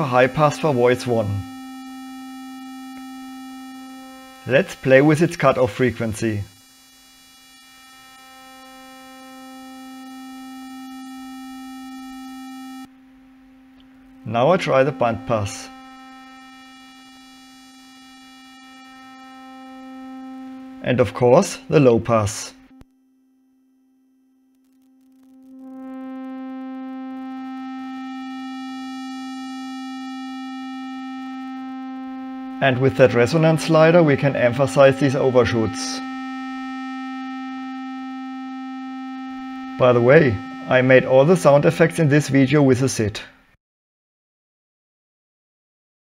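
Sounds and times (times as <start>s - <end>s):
synthesizer square-wave tone: 0.0s - 43.4s.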